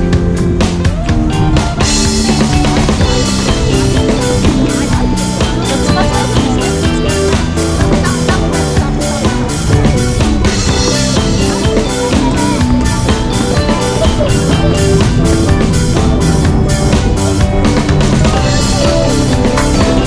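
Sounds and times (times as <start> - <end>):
music with drum beat: 0.0 - 20.0.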